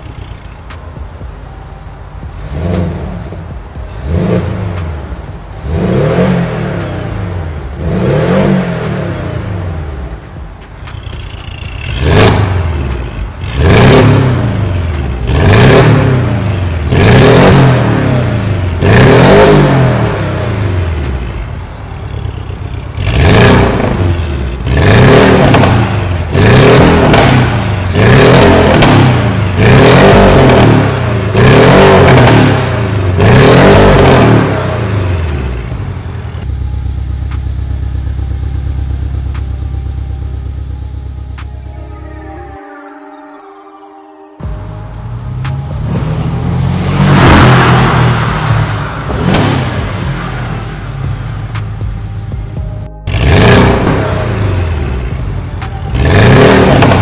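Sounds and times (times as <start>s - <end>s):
car engine idling: 0.0s - 33.4s, 34.2s - 41.8s, 44.4s - 57.0s
car engine revving: 0.0s - 42.0s, 44.4s - 57.0s.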